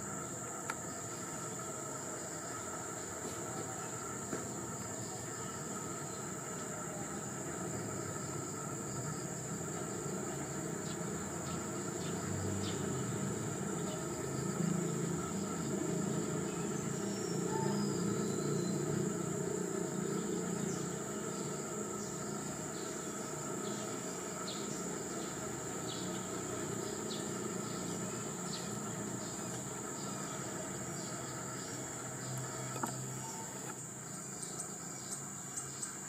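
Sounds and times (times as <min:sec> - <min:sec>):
insects droning: 0:00.0 - 0:36.0.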